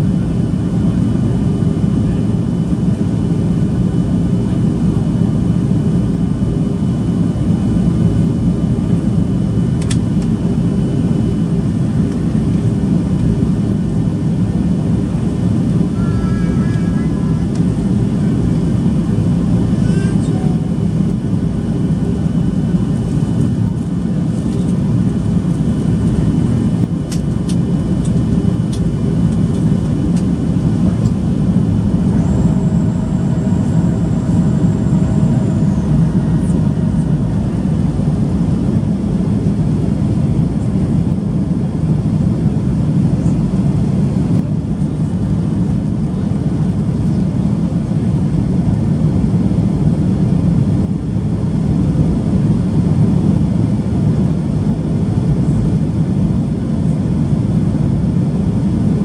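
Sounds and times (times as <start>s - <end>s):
airliner cabin drone: 0.0s - 59.0s.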